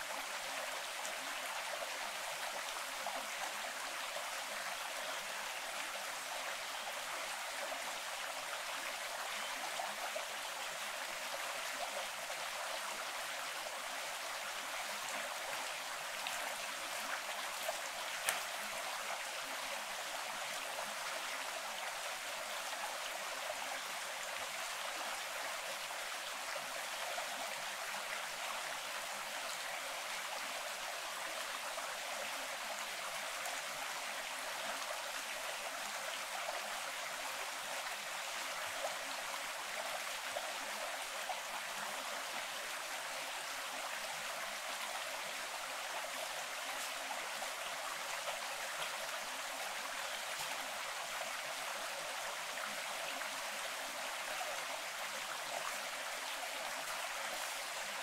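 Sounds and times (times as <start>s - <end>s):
stream running over rocks: 0.0s - 58.0s.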